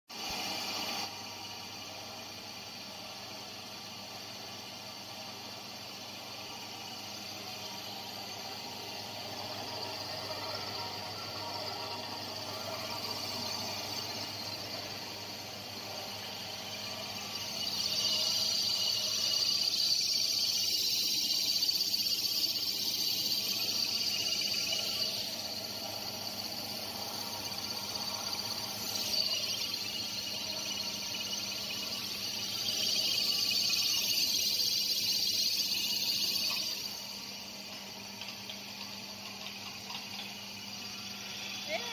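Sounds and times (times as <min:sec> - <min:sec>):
machine hiss: 0:00.1 - 0:41.9
motor hum: 0:00.2 - 0:41.9.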